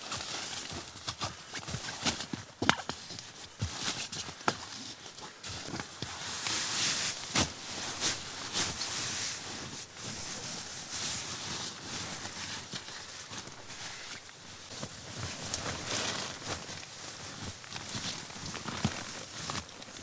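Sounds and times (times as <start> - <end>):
rustling of camping gear: 0.0 - 20.0.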